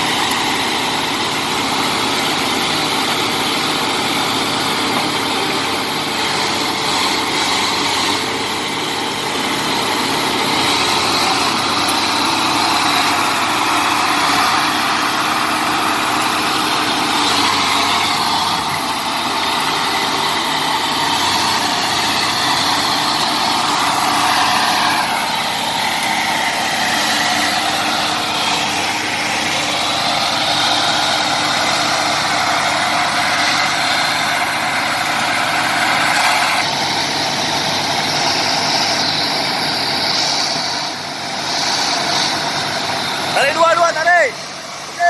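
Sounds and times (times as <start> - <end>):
bulldozer diesel engine under load: 0.0 - 45.0.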